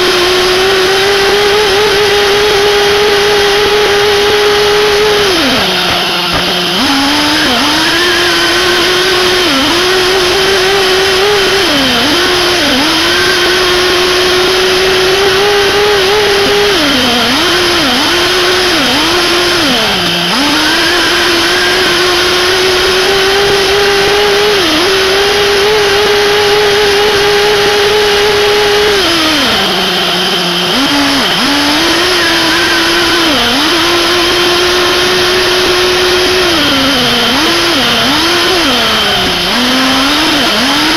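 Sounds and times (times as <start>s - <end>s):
model nitro engine revving: 0.0s - 40.9s.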